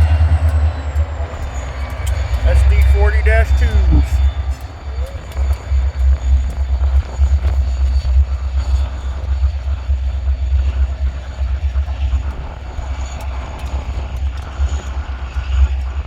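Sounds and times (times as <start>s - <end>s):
diesel locomotive engines rumbling: 0.0s - 16.0s.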